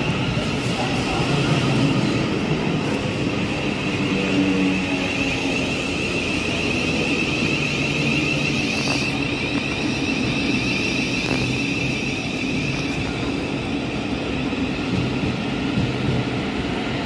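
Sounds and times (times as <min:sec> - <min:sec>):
train running hum and whine: 0:00.0 - 0:17.0.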